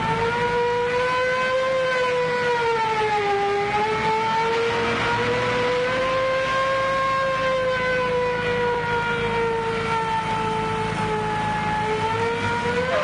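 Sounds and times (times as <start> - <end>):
car engines rumbling: 0.0 - 13.0
police siren wailing: 0.0 - 13.0.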